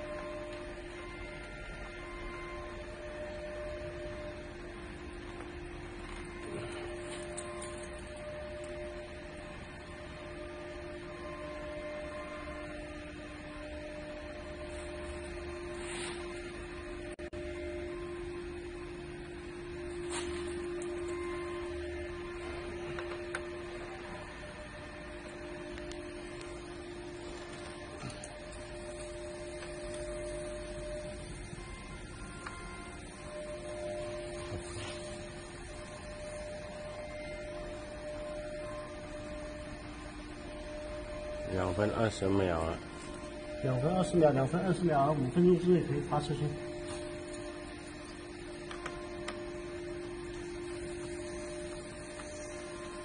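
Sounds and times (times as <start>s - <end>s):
machinery electrical hum: 0.0s - 53.0s.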